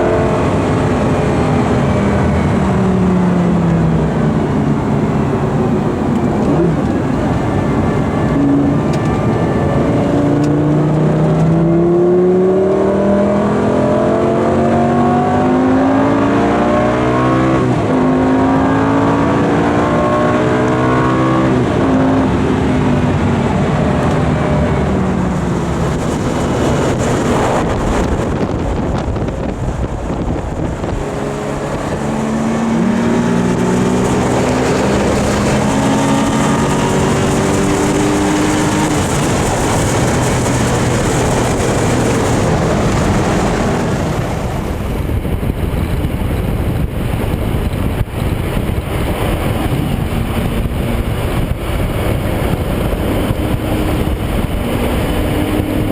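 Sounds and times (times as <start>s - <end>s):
sports car engine accelerating: 0.0s - 55.9s
wind rushing over microphone: 0.0s - 55.9s.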